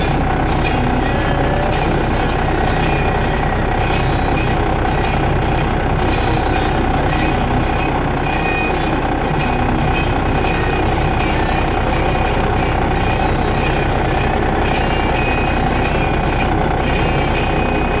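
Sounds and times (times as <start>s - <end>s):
diesel engine drone: 0.0s - 18.0s
mid-pitched whine: 0.0s - 18.0s
short high tones: 0.0s - 18.0s.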